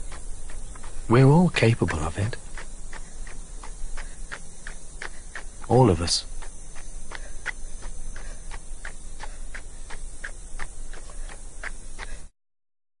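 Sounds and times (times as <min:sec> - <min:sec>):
jogging footsteps on road: 0:00.0 - 0:12.3.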